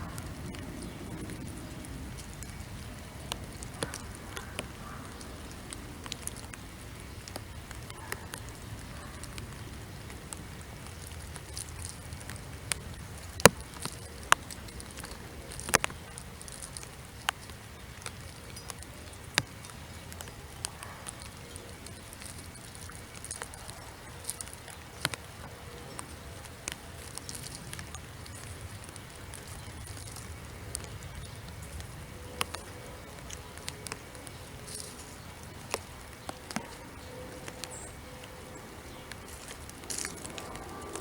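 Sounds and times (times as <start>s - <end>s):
faint rain hiss: 0.0s - 41.0s
raindrops tapping: 0.0s - 41.0s.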